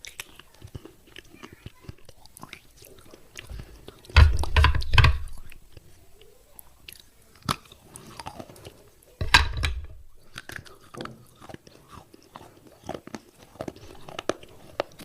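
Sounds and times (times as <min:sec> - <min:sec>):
person chewing clay: 0:00.0 - 0:09.2, 0:09.8 - 0:15.0.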